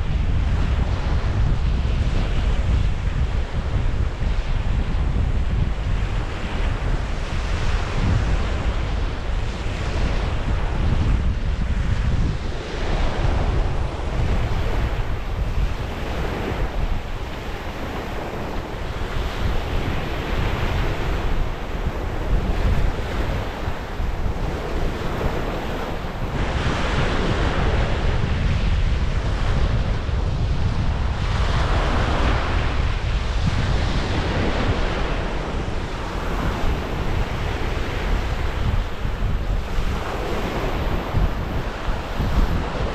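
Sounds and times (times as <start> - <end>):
wind buffeting microphone: 0.0 - 42.9
waves washing onto shore: 0.1 - 42.9.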